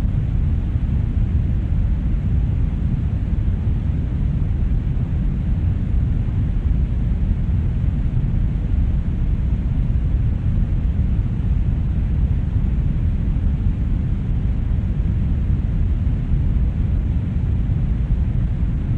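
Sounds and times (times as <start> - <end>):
brown noise: 0.0 - 18.9.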